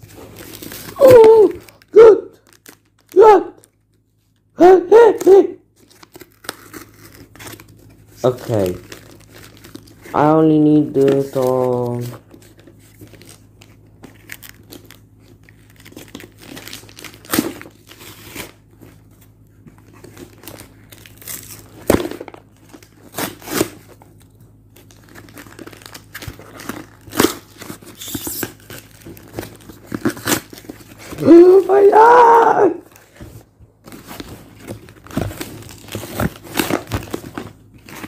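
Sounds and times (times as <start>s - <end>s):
packaging crinkling: 0.0s - 4.4s, 5.8s - 31.8s, 32.8s - 38.0s.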